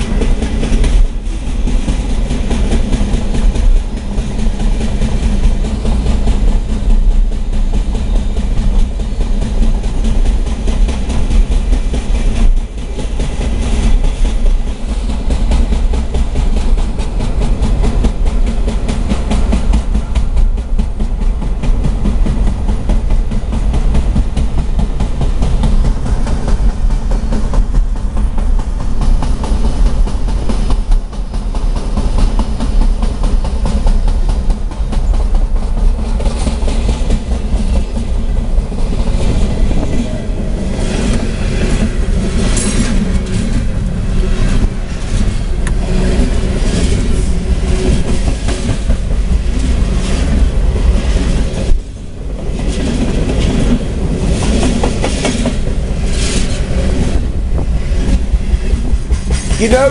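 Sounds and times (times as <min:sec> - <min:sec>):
heavy train rumble: 0:00.0 - 0:59.9
train wheels clattering over rail joints: 0:00.0 - 0:59.9.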